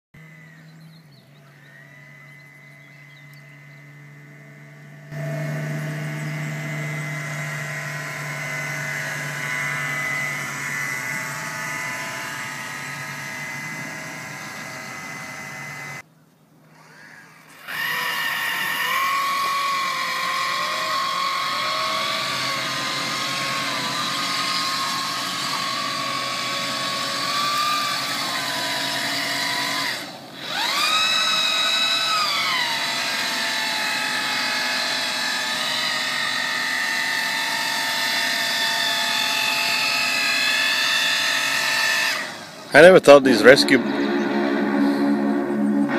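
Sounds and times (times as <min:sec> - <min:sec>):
small electric motors whining: 0:00.2 - 0:45.0.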